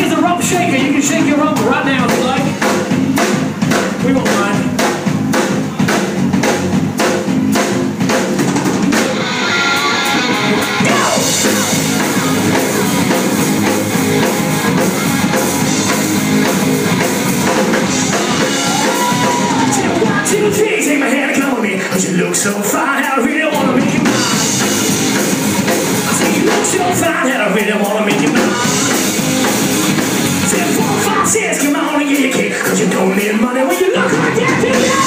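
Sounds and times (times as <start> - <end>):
drum beat: 0.0 - 9.5, 10.1 - 20.8, 23.6 - 31.7, 34.0 - 35.0
rock band playing: 0.0 - 35.0.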